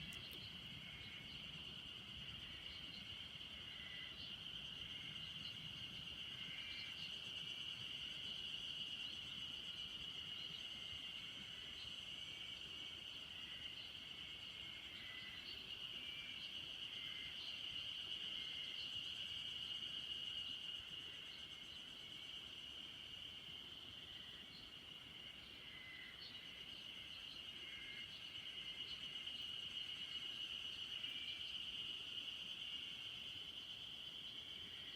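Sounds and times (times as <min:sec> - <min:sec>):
crickets trilling: 0:00.0 - 0:34.9
faint insect chirps: 0:00.0 - 0:34.9.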